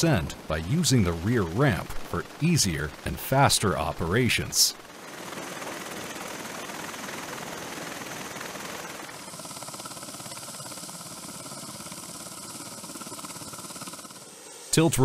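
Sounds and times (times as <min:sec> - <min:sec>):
tiltrotor aircraft running: 0:00.0 - 0:15.0.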